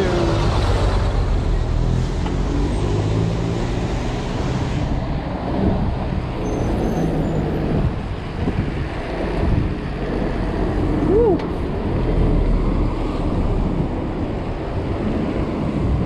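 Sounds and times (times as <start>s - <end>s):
bus and truck engines: 0.0s - 16.0s
tyre and road noise: 0.0s - 16.0s.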